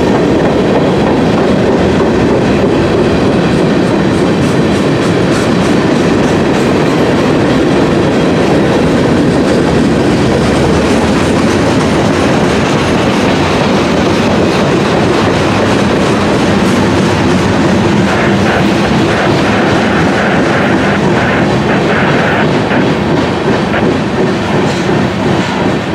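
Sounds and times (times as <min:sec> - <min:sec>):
train wheels on rails: 0:00.0 - 0:25.9.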